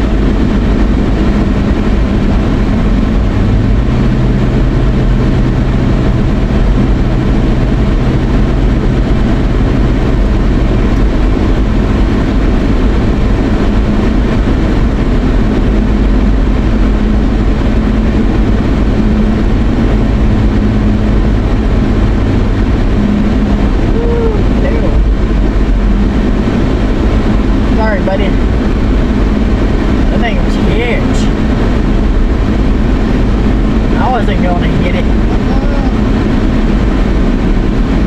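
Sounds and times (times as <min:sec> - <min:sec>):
car engine hum: 0:00.0 - 0:38.0
car road noise: 0:00.0 - 0:38.0.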